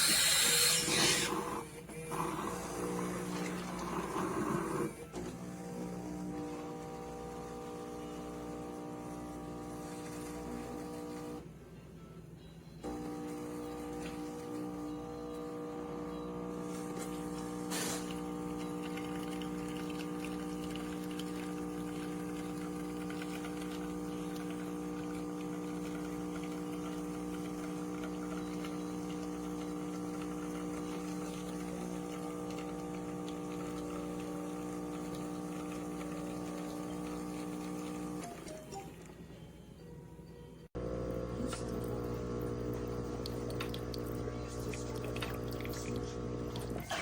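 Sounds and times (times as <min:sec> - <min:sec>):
espresso machine pump humming: 0:00.0 - 0:11.4, 0:12.8 - 0:38.4, 0:40.8 - 0:47.0.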